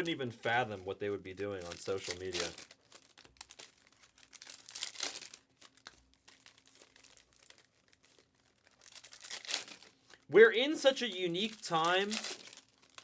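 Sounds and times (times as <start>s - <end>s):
foil wrappers crinkling and tearing: 0.0s - 13.0s.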